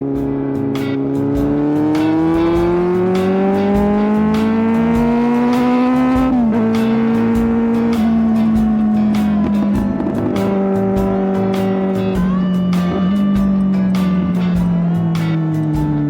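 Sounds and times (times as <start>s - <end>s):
motorcycle engine accelerating: 0.0s - 16.0s
music with a beat: 0.0s - 16.0s.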